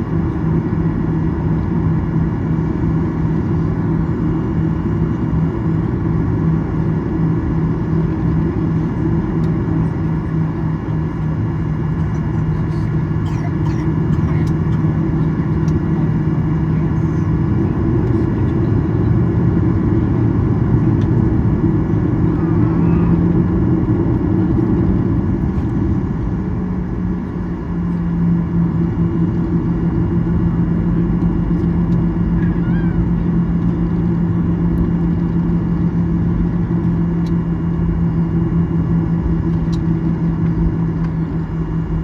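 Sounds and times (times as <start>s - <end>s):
jet engine drone in cabin: 0.0s - 42.0s.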